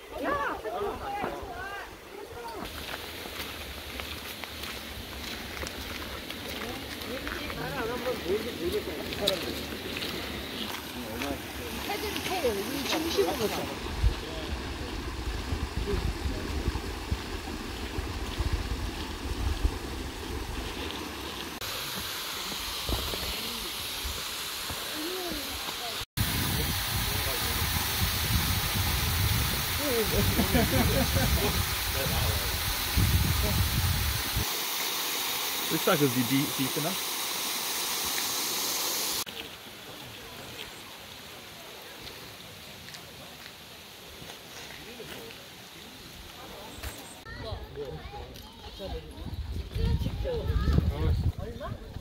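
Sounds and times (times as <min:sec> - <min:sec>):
stream running over rocks: 0:00.0 - 0:48.8
bright steady hiss: 0:01.9 - 0:47.3.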